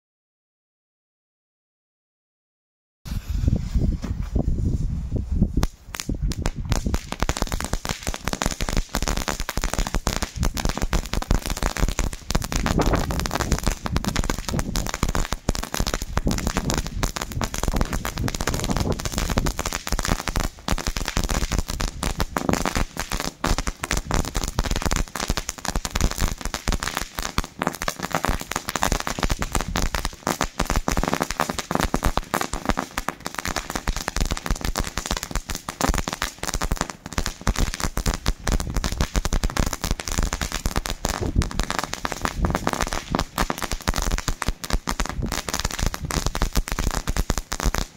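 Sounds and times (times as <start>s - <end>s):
crackling firework: 3.1s - 4.4s, 5.4s - 47.9s.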